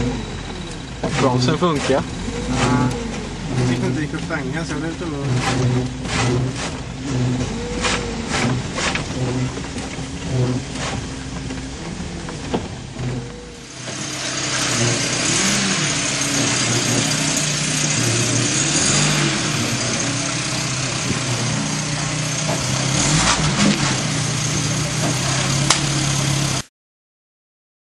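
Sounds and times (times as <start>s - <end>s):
car engine running: 0.0s - 26.7s.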